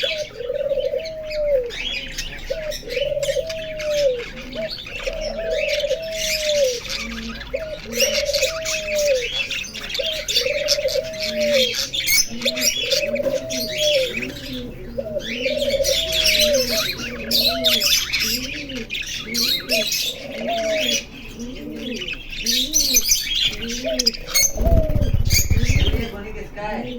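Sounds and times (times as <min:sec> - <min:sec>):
dove cooing: 0:00.0 - 0:26.3
small birds chirping: 0:00.0 - 0:26.9.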